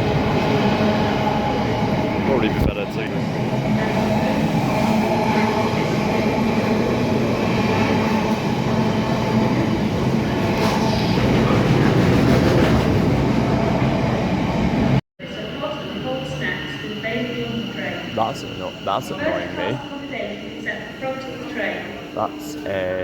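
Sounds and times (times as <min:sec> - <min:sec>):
freight train on rails: 0:00.0 - 0:23.0.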